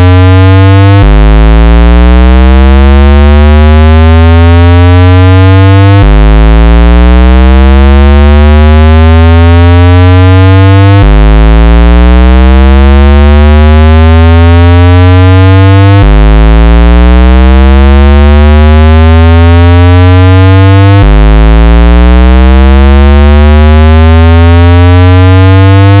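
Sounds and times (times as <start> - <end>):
buzzy rising tone: 0.0 - 26.0
deep bass hum: 0.0 - 26.0.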